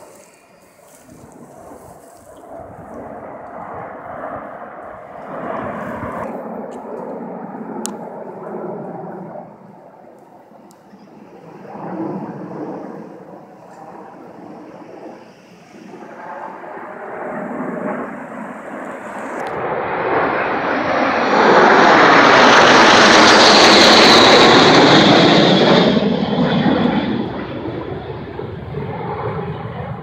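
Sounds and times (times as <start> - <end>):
airplane flying past: 0.0 - 30.0.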